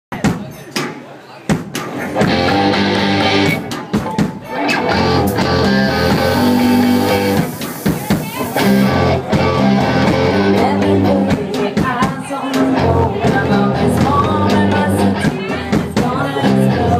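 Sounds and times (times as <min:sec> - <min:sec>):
drum kit steady beat: 0:00.1 - 0:16.9
electric guitar: 0:01.9 - 0:03.8, 0:04.4 - 0:11.8, 0:12.4 - 0:16.9.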